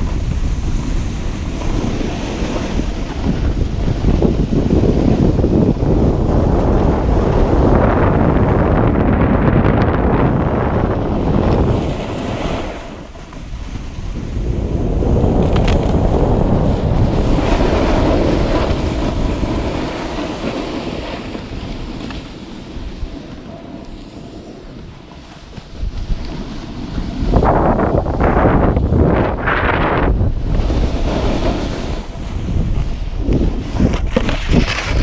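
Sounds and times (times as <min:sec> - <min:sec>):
wind on camera microphone: 0:00.0 - 0:35.0.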